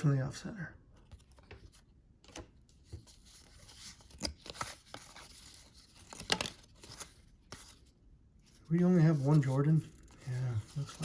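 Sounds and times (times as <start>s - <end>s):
cards and wrappers rustling: 1.0s - 11.0s.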